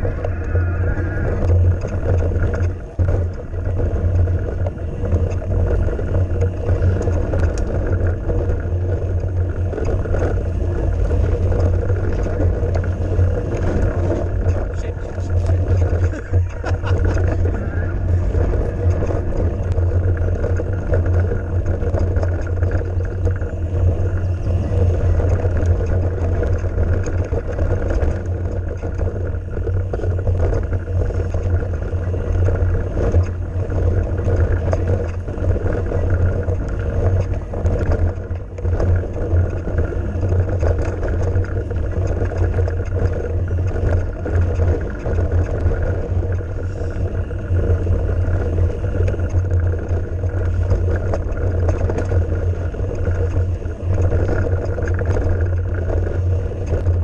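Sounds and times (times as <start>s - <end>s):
tyres rolling on loose stones: 0.0s - 57.0s
wind buffeting microphone: 0.0s - 57.0s.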